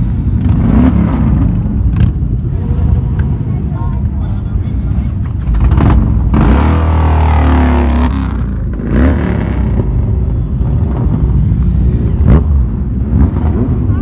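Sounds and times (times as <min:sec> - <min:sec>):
motorcycle engine revving: 0:00.0 - 0:03.2, 0:05.4 - 0:14.0
motorcycles passing: 0:00.0 - 0:14.0.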